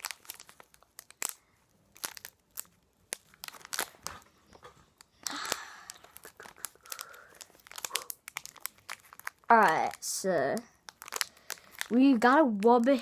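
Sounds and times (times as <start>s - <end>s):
foil wrapper tearing: 0.0s - 4.3s, 5.1s - 13.0s
foil wrapper crinkling: 0.0s - 13.0s.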